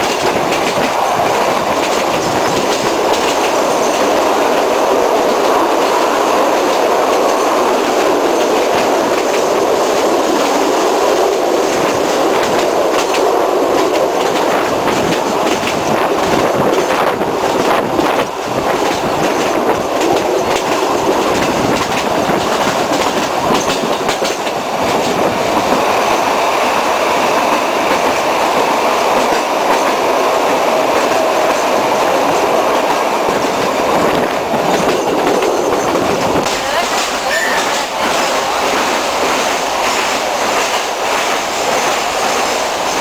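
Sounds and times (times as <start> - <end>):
train rumbling: 0.0 - 43.0
wheels clacking over rail joints: 0.0 - 43.0.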